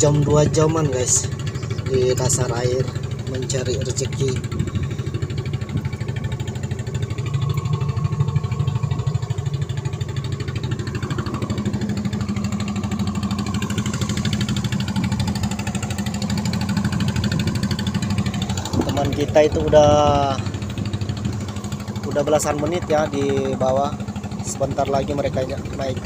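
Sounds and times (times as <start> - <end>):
small engine running steadily: 0.0 - 26.0.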